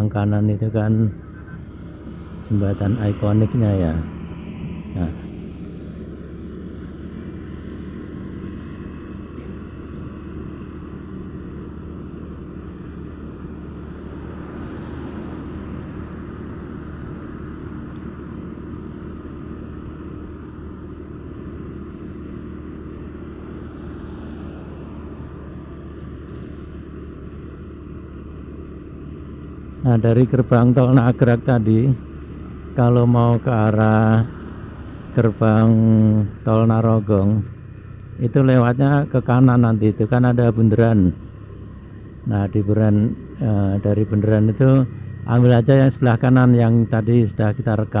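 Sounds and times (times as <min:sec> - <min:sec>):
car passing: 0:00.0 - 0:48.0
motorcycle engine hum: 0:00.0 - 0:48.0
road and wind noise: 0:00.0 - 0:48.0.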